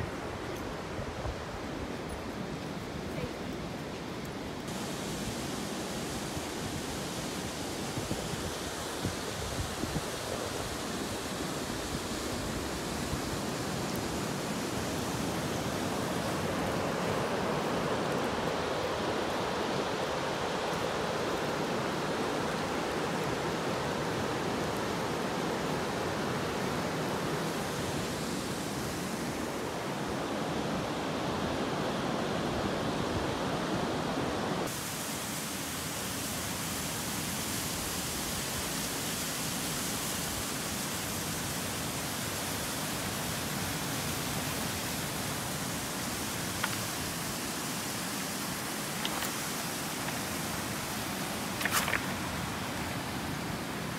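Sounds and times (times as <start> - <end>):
surf on a cobble beach: 0.0 - 53.9
waterfall: 0.0 - 53.9.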